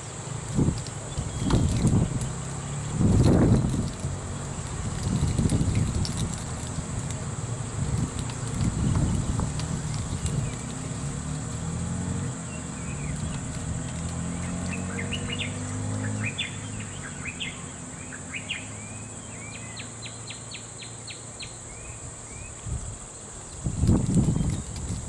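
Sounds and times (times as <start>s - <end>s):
birds chirping: 0.0s - 22.7s
motorcycle engines idling: 0.0s - 25.0s.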